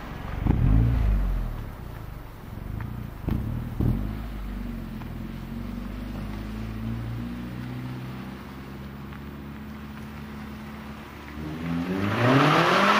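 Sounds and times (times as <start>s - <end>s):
car engine under hard driving: 0.0s - 12.9s.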